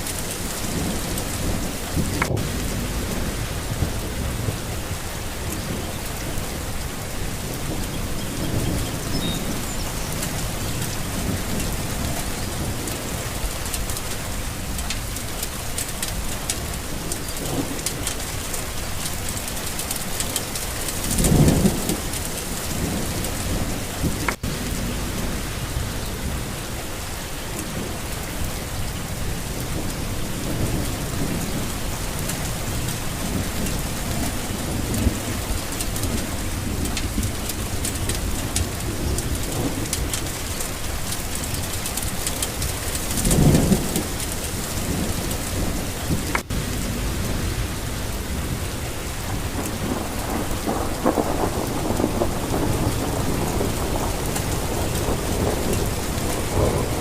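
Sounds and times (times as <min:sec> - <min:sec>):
steady rain falling: 0:00.0 - 0:57.0
thunder rumbling: 0:00.0 - 0:57.0.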